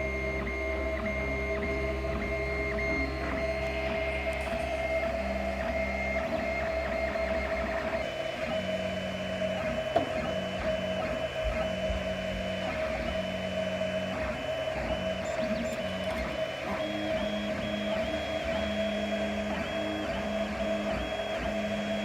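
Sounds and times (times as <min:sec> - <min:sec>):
stepper motors whining: 0:00.0 - 0:22.0.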